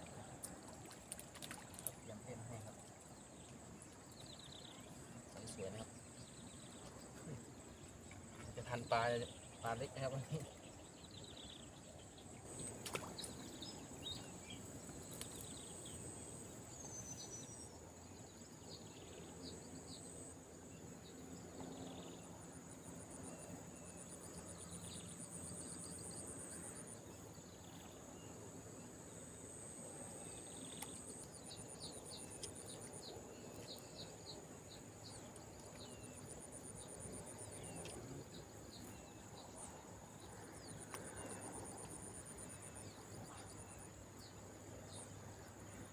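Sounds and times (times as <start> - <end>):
crickets trilling: 0.0 - 45.9
insects buzzing: 0.2 - 45.9.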